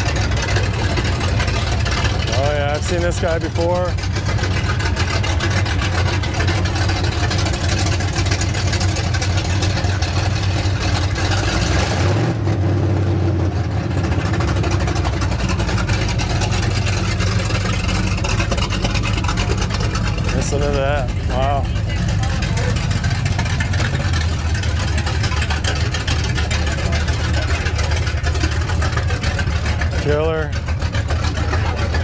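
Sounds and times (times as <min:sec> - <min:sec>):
muscle car engine running: 0:00.0 - 0:32.0.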